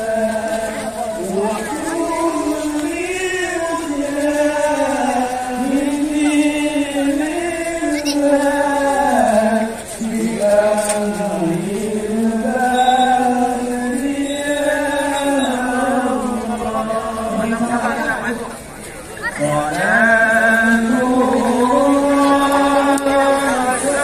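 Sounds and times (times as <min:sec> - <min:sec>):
voices chanting in unison: 0:00.0 - 0:18.2, 0:19.3 - 0:24.0.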